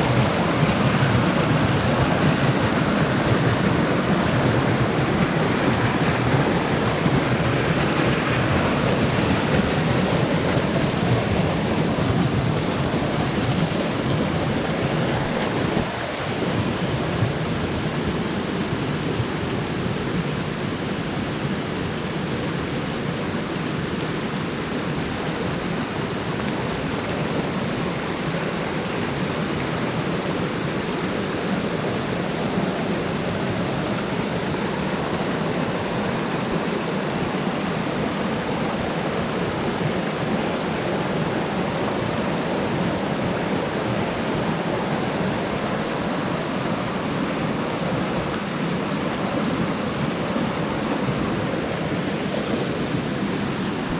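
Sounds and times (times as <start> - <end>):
mountain stream rushing: 0.0 - 53.9.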